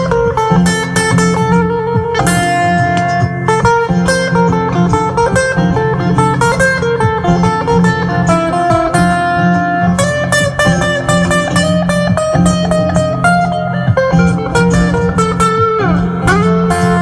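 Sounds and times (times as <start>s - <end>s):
acoustic guitar picking: 0.0s - 17.0s
steady bass: 0.0s - 17.0s.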